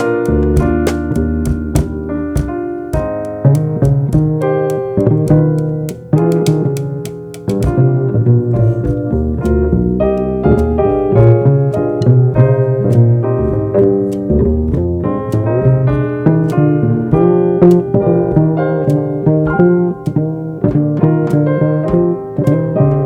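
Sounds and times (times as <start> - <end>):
jazz piano chords and runs: 0.0 - 23.0
walking bass line: 0.0 - 23.0.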